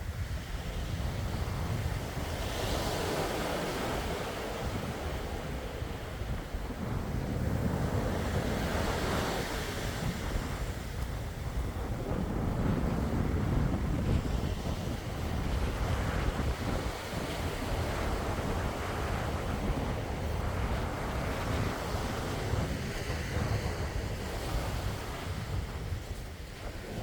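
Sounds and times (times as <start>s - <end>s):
sea waves washing in: 0.0s - 27.0s
wind buffeting microphone: 0.0s - 27.0s.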